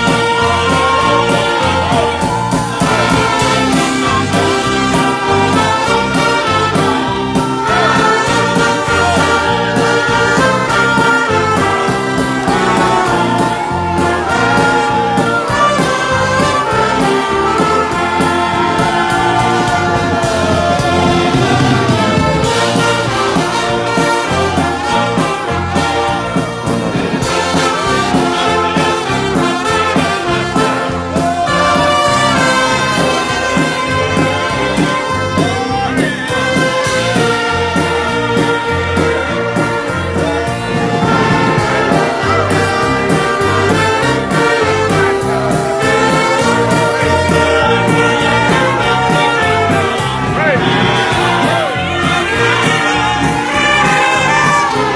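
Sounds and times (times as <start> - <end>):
brass: 0.0 - 54.9
drum kit: 0.0 - 54.9
violins: 0.0 - 54.9.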